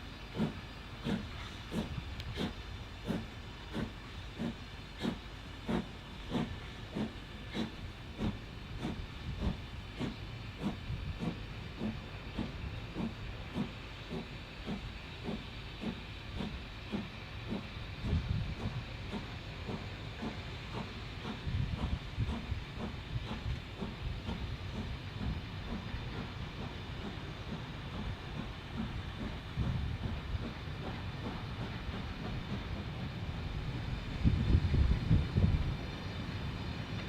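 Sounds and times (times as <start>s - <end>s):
hiss of steam: 0.0s - 37.0s
steam locomotive exhaust chuffs: 0.0s - 37.0s.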